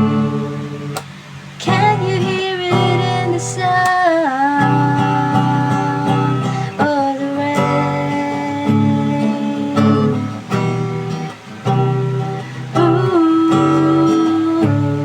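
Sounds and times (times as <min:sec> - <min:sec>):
strummed acoustic guitar: 0:00.0 - 0:15.0
woman singing: 0:01.6 - 0:10.7, 0:11.7 - 0:15.0.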